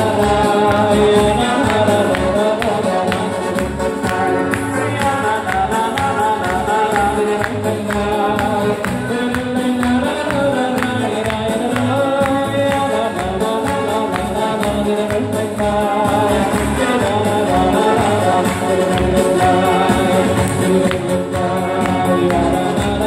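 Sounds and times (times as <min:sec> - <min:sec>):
band playing wedding music: 0:00.0 - 0:23.0
person singing: 0:00.0 - 0:23.0.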